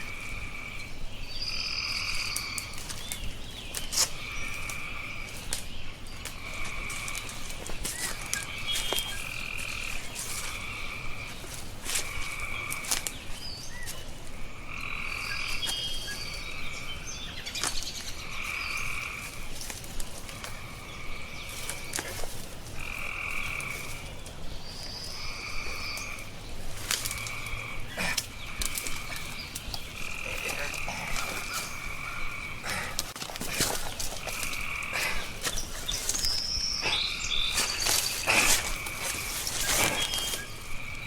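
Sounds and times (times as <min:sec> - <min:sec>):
frogs calling: 0:00.0 - 0:41.0.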